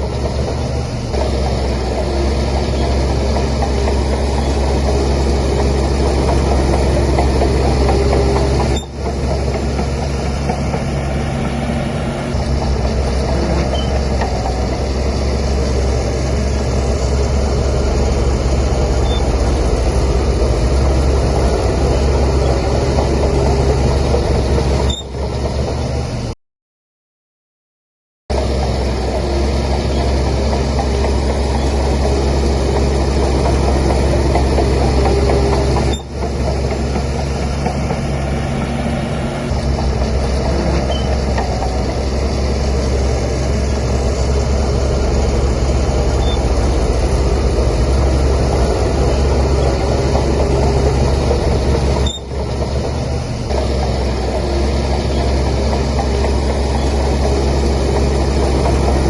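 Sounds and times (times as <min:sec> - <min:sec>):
bulldozer diesel engine running: 0:00.0 - 0:26.4, 0:28.3 - 0:59.0.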